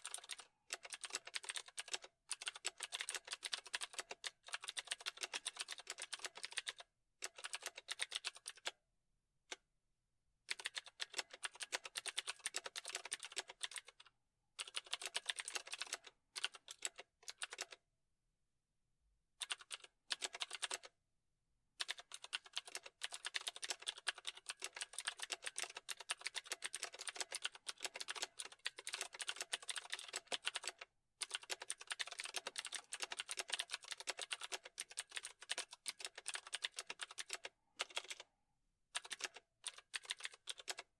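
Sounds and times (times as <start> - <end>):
fast typing on keyboard: 0.0 - 8.8, 10.5 - 17.8, 19.4 - 20.9, 21.8 - 38.3, 38.9 - 40.9.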